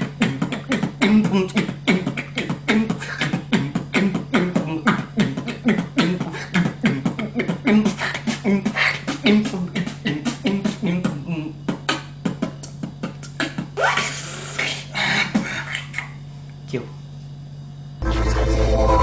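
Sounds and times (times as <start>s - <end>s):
man beatboxing: 0.0s - 16.2s.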